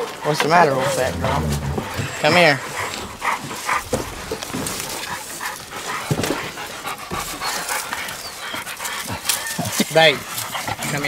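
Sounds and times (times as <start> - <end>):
dogs breathing: 0.0 - 9.3.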